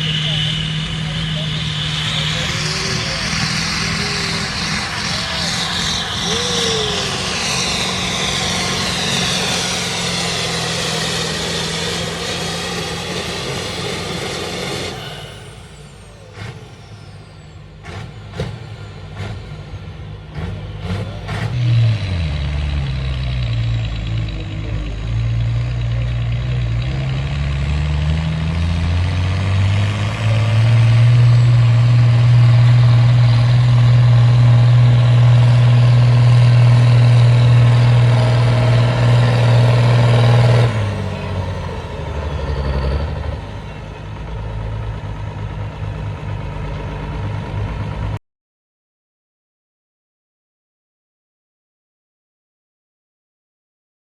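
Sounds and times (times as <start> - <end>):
tractor engine revving: 0.0 - 48.2.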